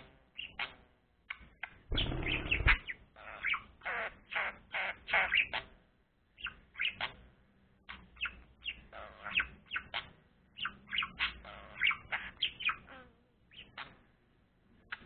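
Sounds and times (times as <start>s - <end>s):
budgerigar chirping: 0.4s - 5.7s, 6.4s - 7.2s, 7.9s - 14.0s.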